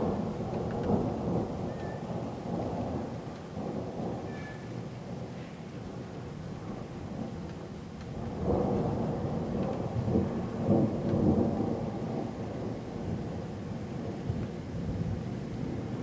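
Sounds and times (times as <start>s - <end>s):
heavy rain: 0.0s - 16.0s
thunder rumbling: 0.0s - 16.0s.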